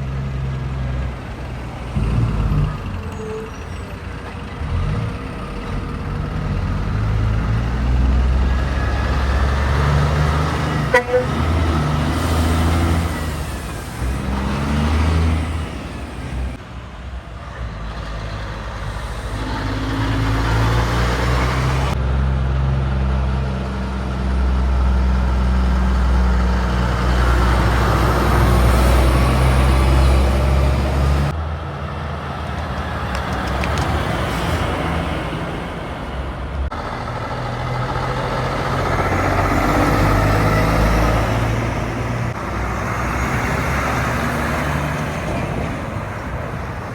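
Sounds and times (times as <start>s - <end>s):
heavy trucks driving past: 0.0s - 46.9s.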